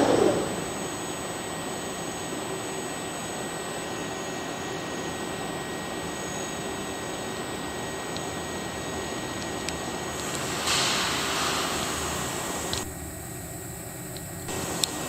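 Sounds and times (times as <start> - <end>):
high machine whines: 0.0 - 15.0
machine hiss and hum: 0.0 - 15.0.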